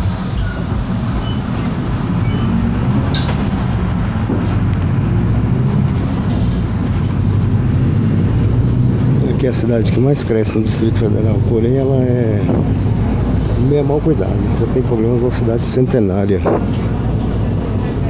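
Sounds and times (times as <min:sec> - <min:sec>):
bus engine drone: 0:00.0 - 0:18.0
road noise: 0:00.0 - 0:18.0.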